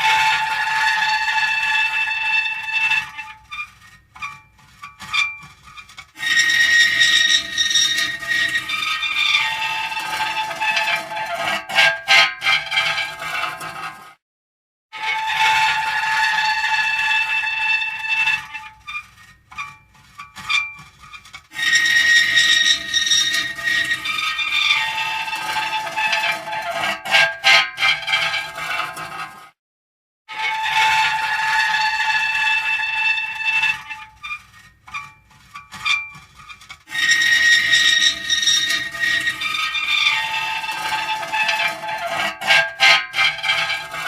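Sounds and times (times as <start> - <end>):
metal creaking: 0.0 - 14.0, 15.2 - 29.4, 30.4 - 44.0.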